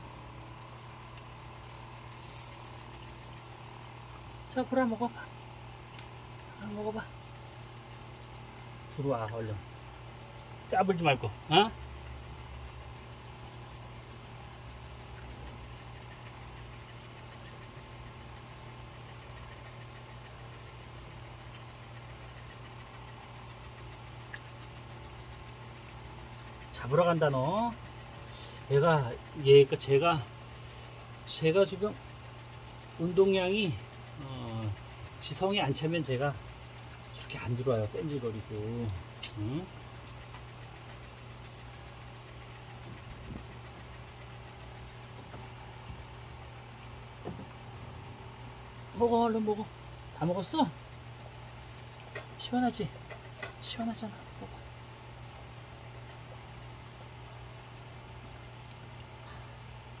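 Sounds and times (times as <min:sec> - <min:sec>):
low mechanical hum: 0:00.0 - 1:00.0.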